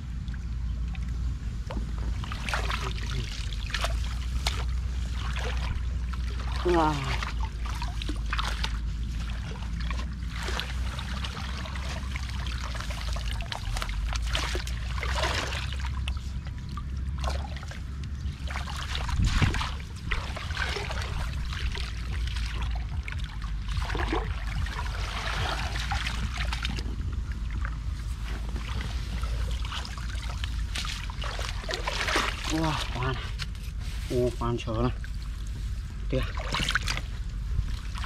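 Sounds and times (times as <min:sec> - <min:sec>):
low rumble: 0:00.0 - 0:38.0
muddy water sloshing and splashing: 0:00.0 - 0:38.0.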